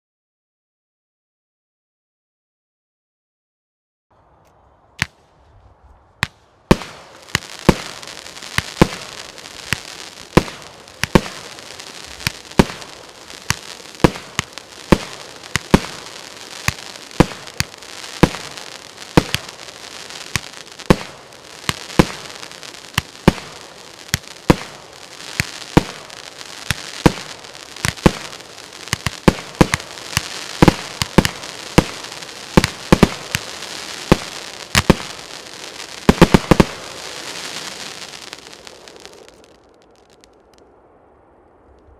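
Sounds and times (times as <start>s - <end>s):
firework shots: 6.2s - 40.5s
firework stars crackling: 6.2s - 40.8s.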